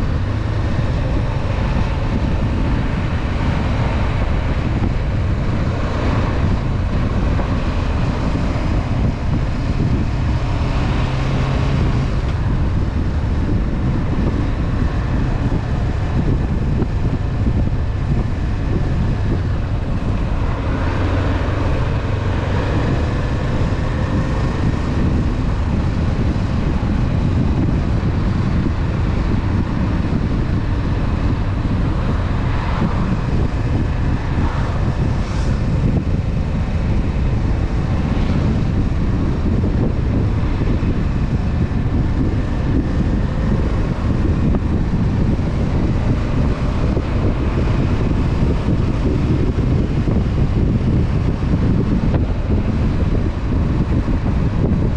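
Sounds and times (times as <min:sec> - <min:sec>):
motorcycle engine cruising: 0:00.0 - 0:54.9
wind rushing over microphone: 0:00.0 - 0:54.9.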